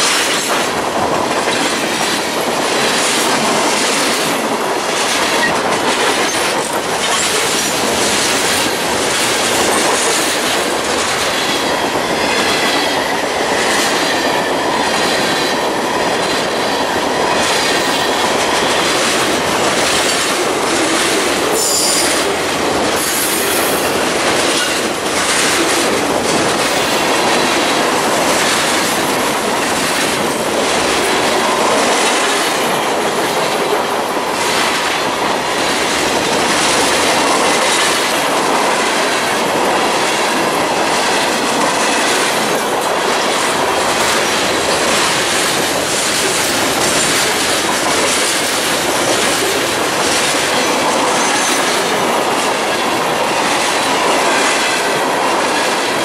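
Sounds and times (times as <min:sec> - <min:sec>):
train wheels rumbling and clicking: 0:00.0 - 0:56.0.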